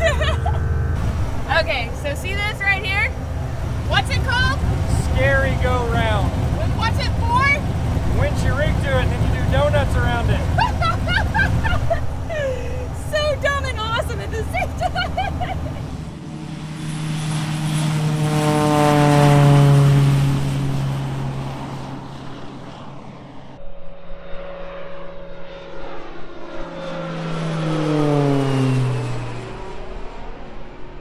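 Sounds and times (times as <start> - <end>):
propeller airplane flying past: 0.0 - 31.0.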